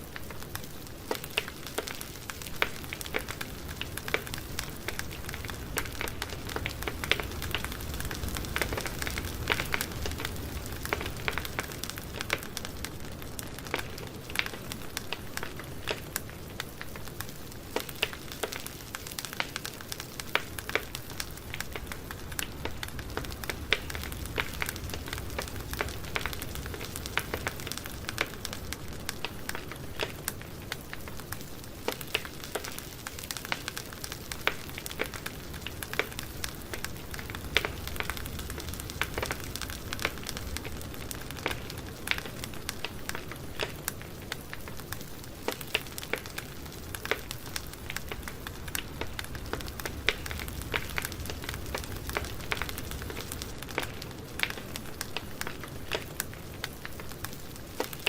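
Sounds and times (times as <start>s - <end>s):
flames hissing and rumbling: 0.0s - 58.0s
wood crackling and popping: 0.0s - 58.0s.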